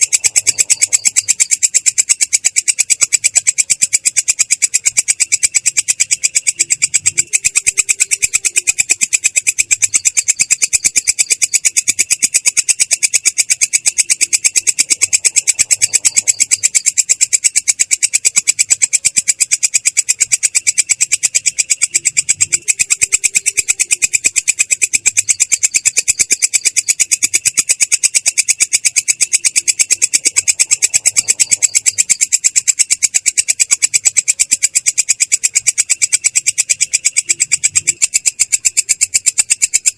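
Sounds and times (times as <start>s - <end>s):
grasshopper trilling: 0.0s - 39.9s.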